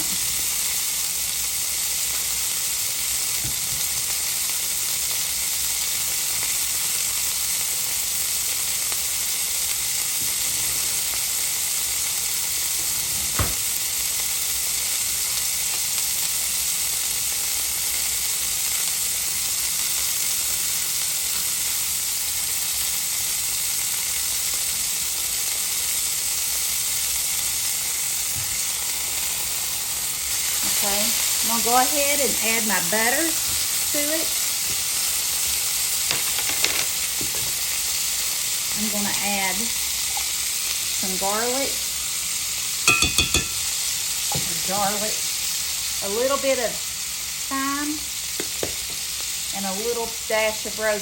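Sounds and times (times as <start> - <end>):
steaks sizzling in a skillet: 0.0 - 51.0.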